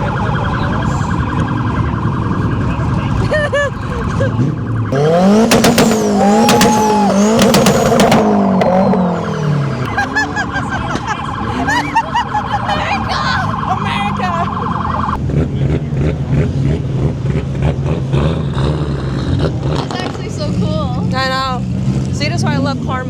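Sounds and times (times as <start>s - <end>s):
car engine revving with cracks: 0.0s - 23.0s
other cars running: 0.0s - 23.0s.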